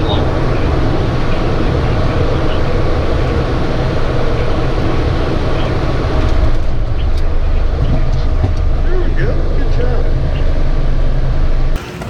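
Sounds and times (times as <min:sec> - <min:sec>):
machinery rumbling and hissing: 0:00.0 - 0:12.0.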